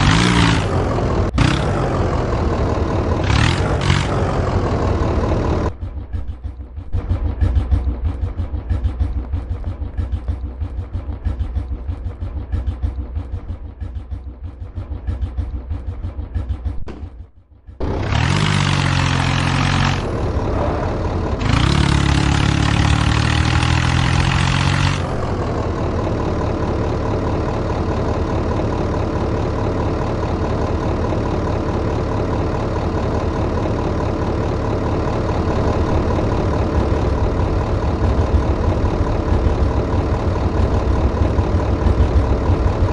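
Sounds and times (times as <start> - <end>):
tractor engine idling and revving: 0.0 - 42.9.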